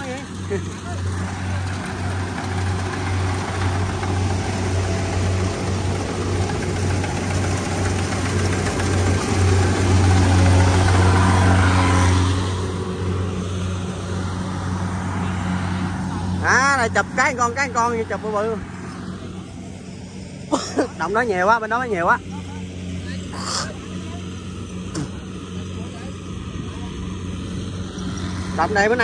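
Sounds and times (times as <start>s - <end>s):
broad rushing noise: 0.0s - 29.0s
combine harvester engine droning: 0.0s - 29.0s.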